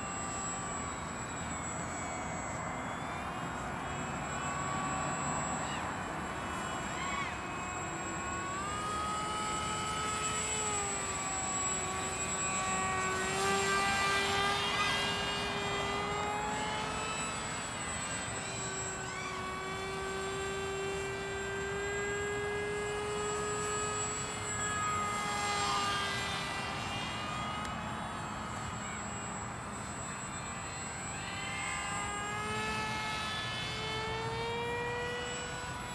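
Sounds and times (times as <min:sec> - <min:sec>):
model plane motor buzzing: 0:00.0 - 0:35.9.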